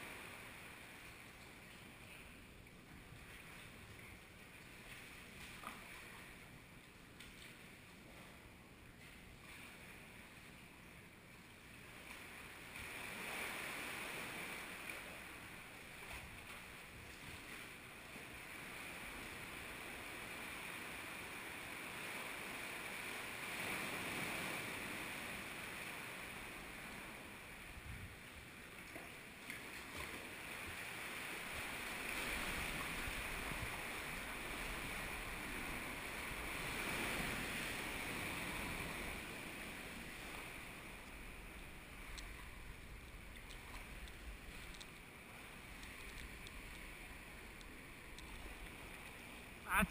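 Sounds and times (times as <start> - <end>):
seawater washing in a cave: 0.0 - 49.9.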